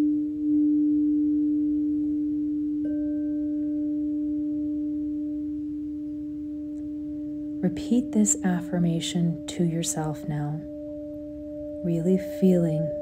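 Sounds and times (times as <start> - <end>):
singing bowl higher tone: 0.0 - 13.0
singing bowl low tone: 0.0 - 13.0.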